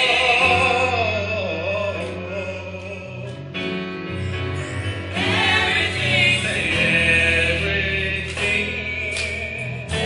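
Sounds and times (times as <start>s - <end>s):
gospel vocal group singing: 0.0s - 10.0s.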